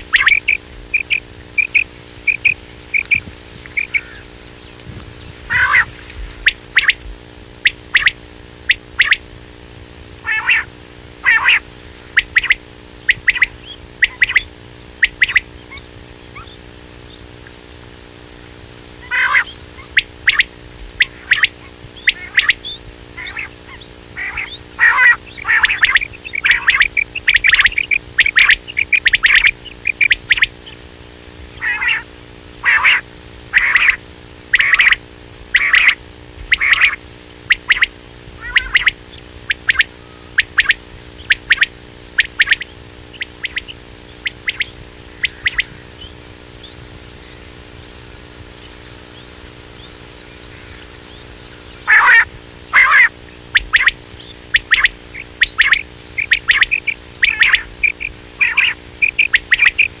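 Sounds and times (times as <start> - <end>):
quail calls: 0.0 - 9.3, 10.2 - 17.6, 18.9 - 30.9, 31.5 - 60.0
faint high steady trill: 0.0 - 60.0.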